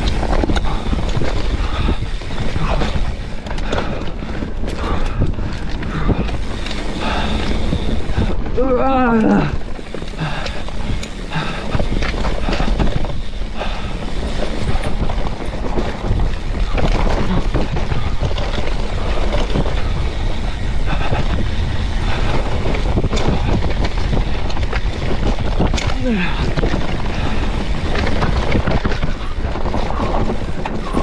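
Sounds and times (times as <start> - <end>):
bike rattling over rough ground: 0.0 - 31.0
heavy low rumble: 0.0 - 31.0.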